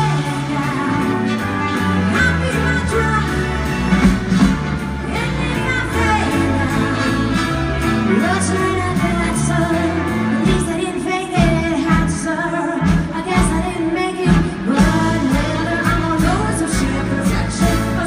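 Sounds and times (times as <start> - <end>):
woman singing into a microphone: 0.0 - 4.0, 5.0 - 18.0
band with drums: 0.0 - 18.0.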